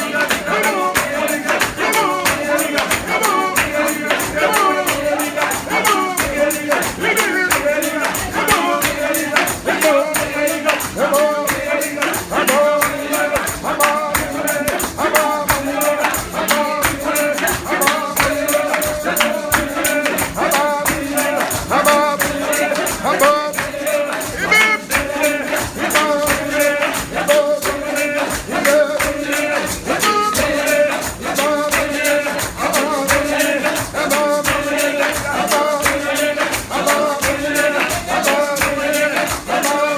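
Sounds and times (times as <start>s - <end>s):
group singing a hymn: 0.0s - 39.9s
tambourine beat: 0.0s - 39.9s.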